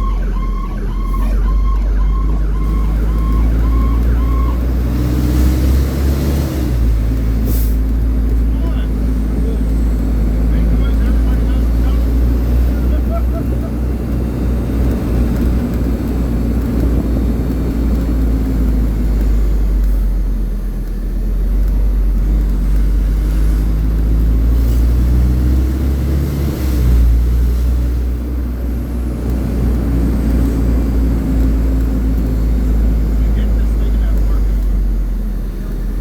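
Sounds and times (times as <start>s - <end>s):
diesel engine rumble: 0.0s - 36.0s
road noise: 0.0s - 36.0s.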